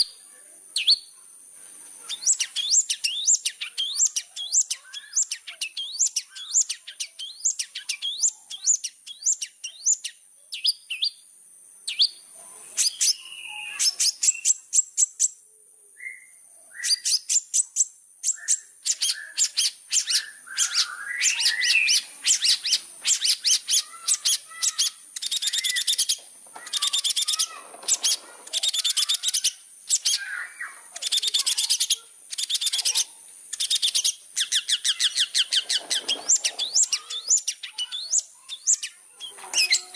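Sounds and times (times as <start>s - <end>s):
shrike singing: 2.0s - 11.2s, 11.9s - 15.4s, 16.0s - 39.9s.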